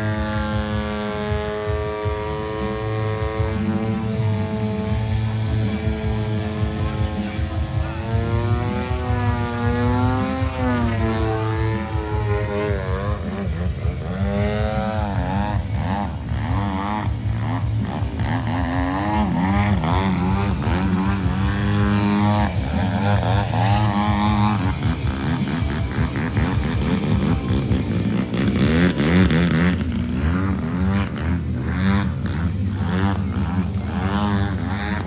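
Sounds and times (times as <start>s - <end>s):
model airplane engine and propeller: 0.0s - 35.0s
steady low hum: 0.0s - 35.0s.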